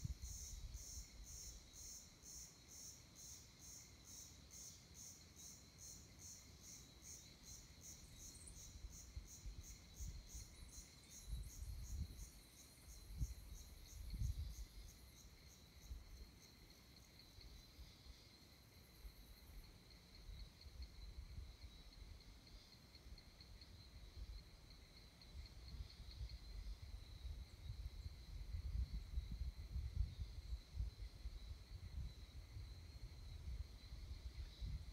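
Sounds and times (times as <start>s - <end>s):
insects chirping: 0.0s - 34.9s.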